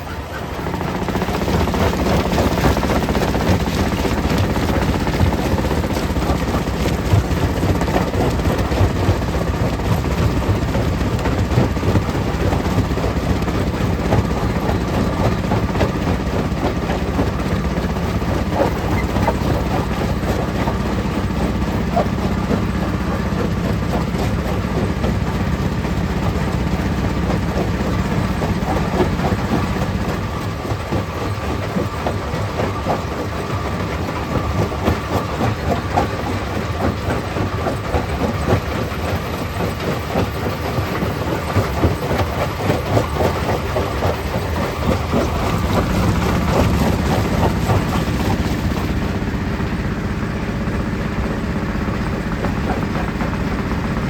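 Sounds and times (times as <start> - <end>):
stone crusher machine hum: 0.0 - 54.0.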